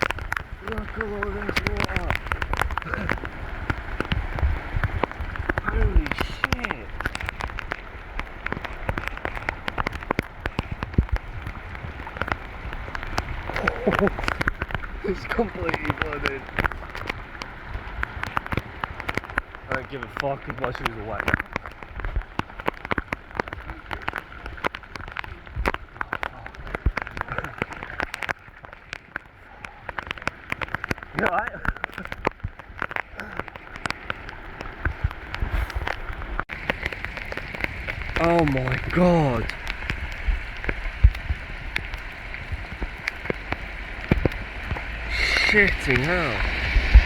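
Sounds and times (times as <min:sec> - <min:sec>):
sharp raindrop impacts: 0:00.0 - 0:47.0
torrential rain hissing: 0:00.0 - 0:47.0.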